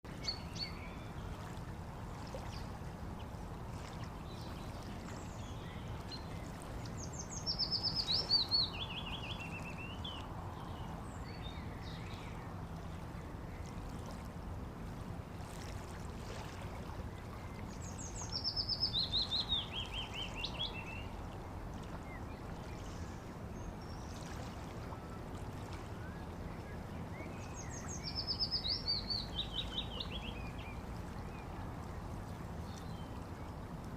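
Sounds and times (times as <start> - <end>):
songbird singing: 0.1 - 13.8, 17.0 - 33.7
water rushing along a bank: 0.1 - 33.9.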